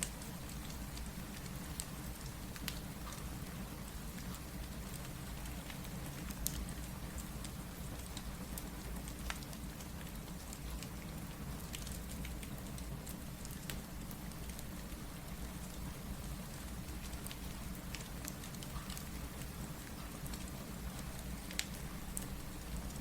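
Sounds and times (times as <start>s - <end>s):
crackling fireplace: 0.0s - 23.0s
steady rain: 0.0s - 23.0s.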